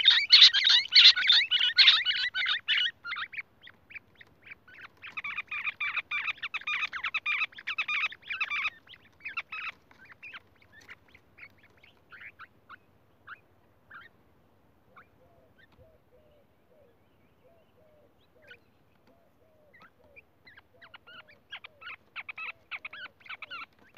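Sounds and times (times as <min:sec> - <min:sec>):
bird chirping: 0:00.0 - 0:23.9.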